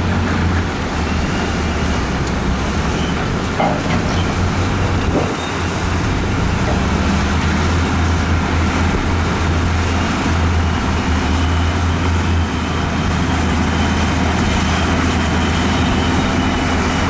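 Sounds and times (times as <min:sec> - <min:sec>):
bulldozer diesel engine drone: 0:00.0 - 0:17.0
dump truck diesel engine: 0:00.0 - 0:17.0.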